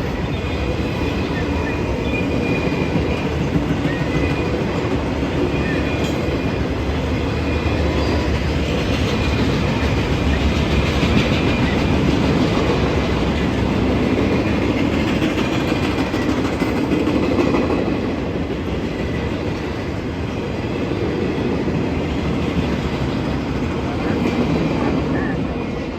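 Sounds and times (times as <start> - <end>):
train wheels on track clicking: 0.0 - 25.9.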